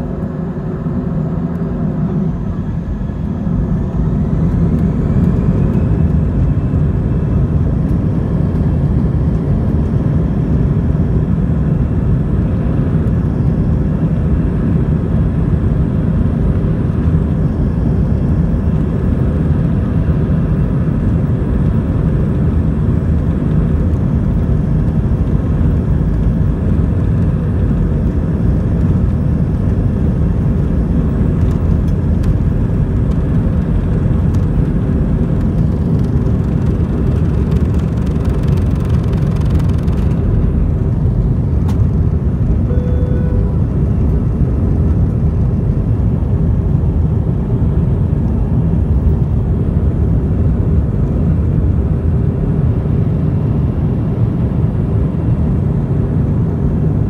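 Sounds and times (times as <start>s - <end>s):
jet engines rumbling: 0.0s - 57.0s.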